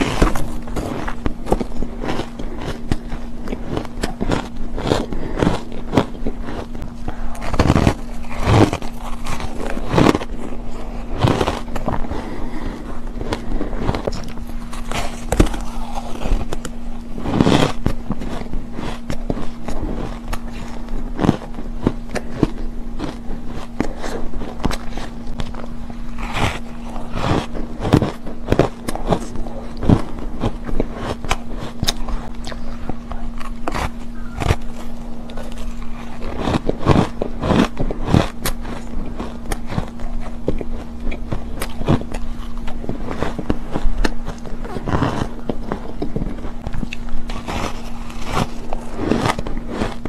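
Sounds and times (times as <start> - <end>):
chewing and crunching ice: 0.0 - 50.0
steady low hum: 0.0 - 50.0.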